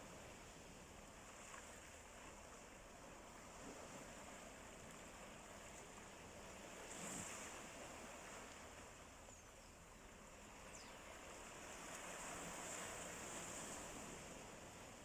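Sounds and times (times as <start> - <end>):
faint sea waves washing ashore: 0.0 - 15.0.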